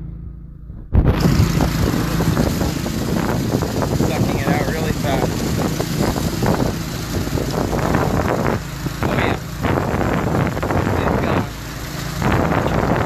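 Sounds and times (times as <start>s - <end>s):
engine humming: 0.0s - 13.0s
gusty noise: 0.0s - 13.0s.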